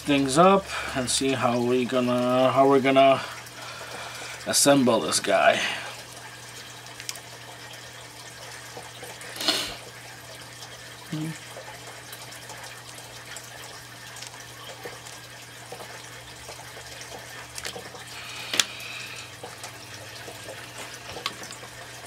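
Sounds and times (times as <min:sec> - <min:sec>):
low electrical hum: 0:00.0 - 0:22.0
water trickling: 0:00.0 - 0:22.0.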